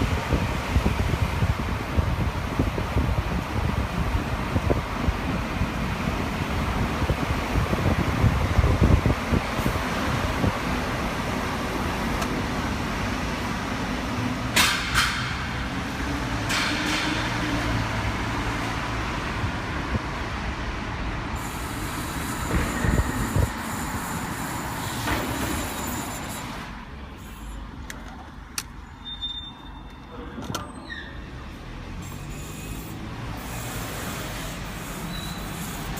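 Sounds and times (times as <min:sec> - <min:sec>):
car road noise: 0:00.0 - 0:35.9.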